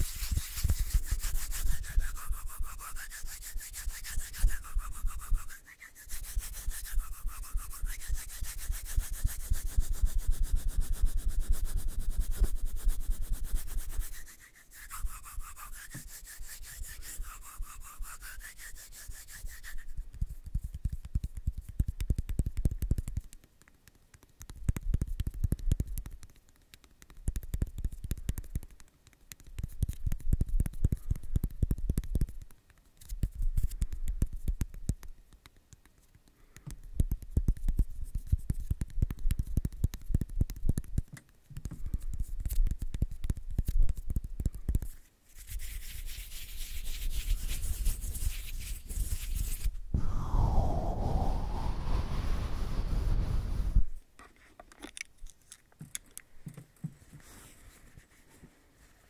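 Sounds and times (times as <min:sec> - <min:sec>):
close scratchy rubbing and brushing: 0:00.0 - 0:50.1, 0:51.0 - 0:55.5, 0:56.8 - 0:59.0.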